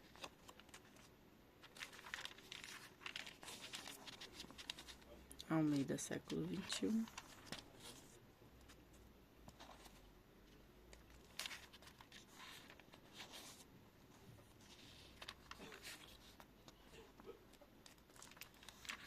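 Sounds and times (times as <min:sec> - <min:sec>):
paper rustling: 0:00.0 - 0:19.0.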